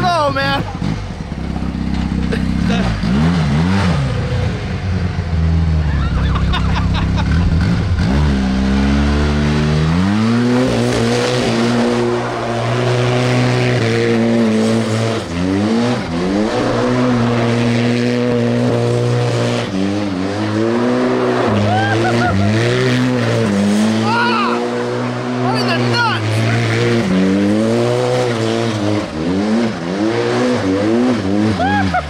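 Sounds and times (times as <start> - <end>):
side-by-side engine revving: 0.0 - 32.0.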